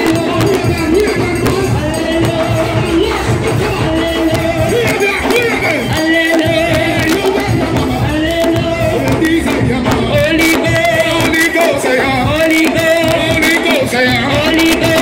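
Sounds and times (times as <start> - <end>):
congregation singing: 0.0 - 15.0
percussive beats: 0.0 - 15.0.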